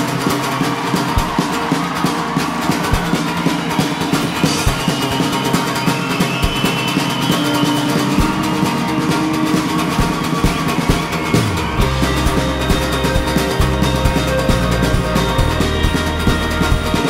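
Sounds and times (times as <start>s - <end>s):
drums: 0.0s - 17.0s
strummed guitars: 0.0s - 17.0s.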